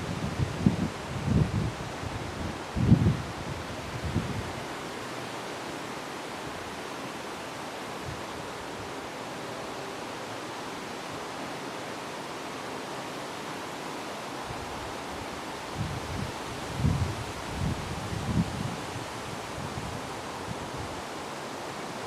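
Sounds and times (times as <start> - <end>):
wind rustling tree leaves: 0.0 - 22.0.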